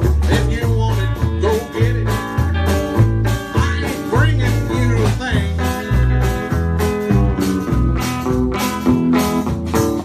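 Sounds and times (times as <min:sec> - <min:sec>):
electric guitar bending notes: 0:00.0 - 0:10.0
live country-blues band: 0:00.0 - 0:10.0.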